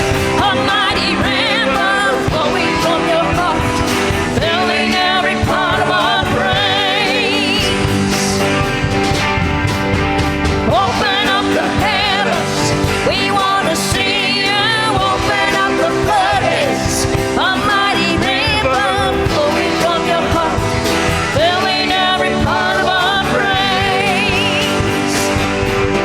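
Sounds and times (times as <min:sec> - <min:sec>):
person singing wordless vocal runs: 0:00.0 - 0:25.6
live worship band playing: 0:00.0 - 0:26.0.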